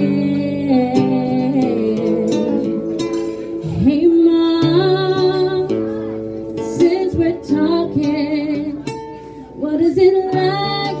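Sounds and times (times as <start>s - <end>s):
acoustic guitar: 0.0s - 11.0s
woman singing: 0.0s - 11.0s.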